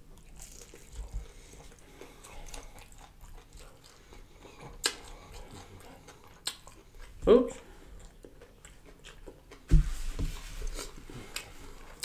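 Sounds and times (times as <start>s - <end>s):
person chewing: 0.0s - 9.7s, 10.6s - 12.0s.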